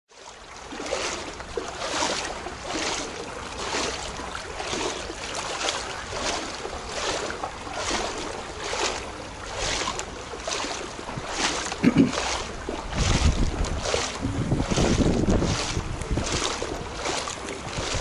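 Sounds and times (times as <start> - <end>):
floodwater splashing: 0.1 - 18.0
low steady rumble: 1.2 - 18.0.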